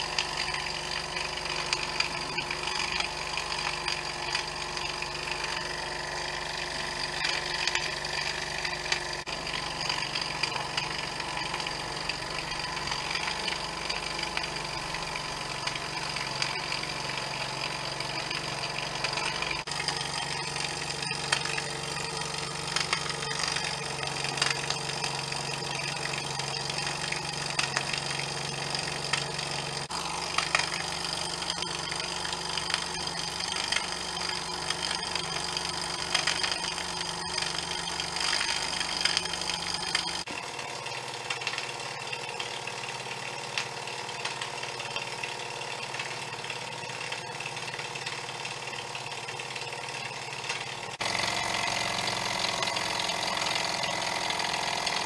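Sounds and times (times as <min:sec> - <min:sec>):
model steam engine running: 0:00.0 - 0:55.0.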